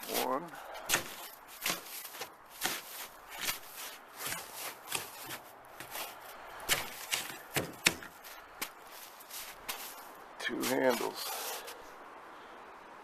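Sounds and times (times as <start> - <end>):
crunching in packed snow: 0.0 - 12.0.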